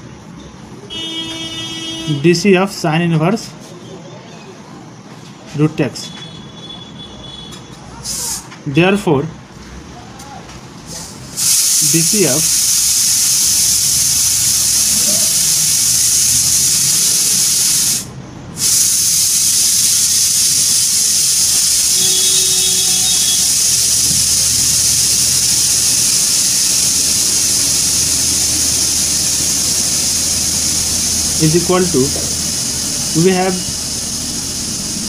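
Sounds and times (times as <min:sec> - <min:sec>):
recording noise hiss: 0:00.0 - 0:06.1, 0:08.0 - 0:35.0.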